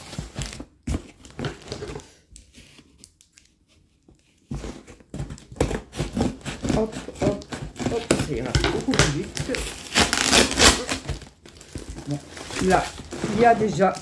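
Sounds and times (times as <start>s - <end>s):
cardboard box and tape tearing: 0.0s - 1.8s, 4.4s - 14.0s.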